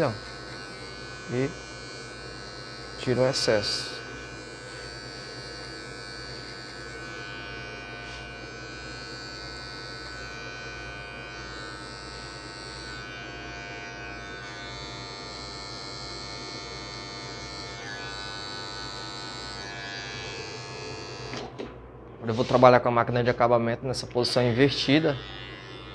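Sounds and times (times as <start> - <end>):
clipper cutting hair: 0.0 - 21.7, 24.0 - 25.9
electric hair clipper running: 0.0 - 21.7, 24.3 - 25.9.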